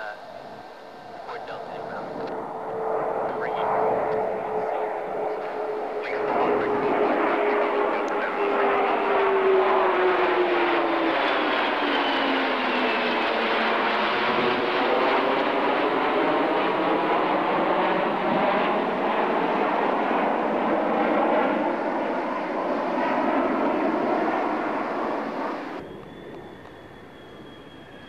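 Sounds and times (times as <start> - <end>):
jet roar passing overhead: 0.0 - 28.0.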